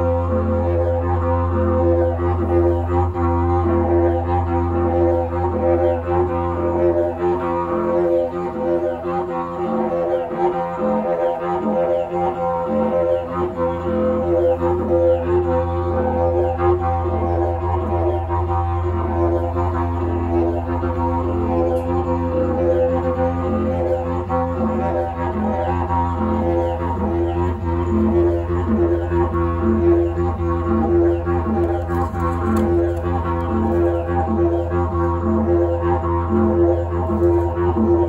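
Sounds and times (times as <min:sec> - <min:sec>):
didgeridoo drone: 0:00.0 - 0:38.0.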